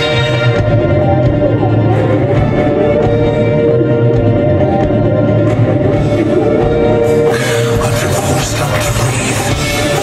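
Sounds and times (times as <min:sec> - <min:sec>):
rock band playing: 0:00.0 - 0:10.0
string orchestra: 0:00.0 - 0:10.0.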